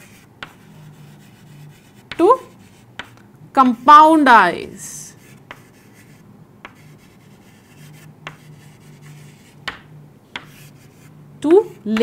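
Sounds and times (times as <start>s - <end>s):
chalk tapping on board: 0.0s - 3.8s, 5.2s - 12.0s
chalk scratching on chalkboard: 0.0s - 4.0s, 5.1s - 9.7s, 10.3s - 12.0s.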